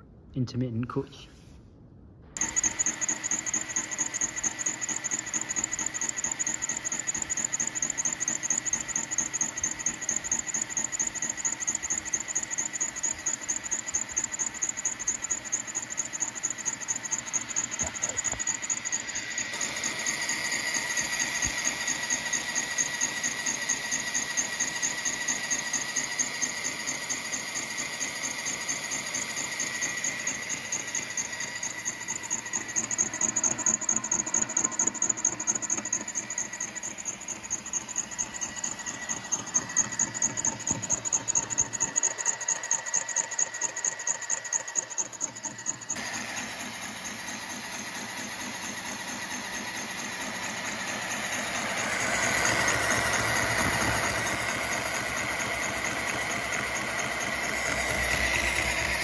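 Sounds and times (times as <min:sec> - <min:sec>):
boring machine whining and pulsing: 0:02.2 - 0:59.0.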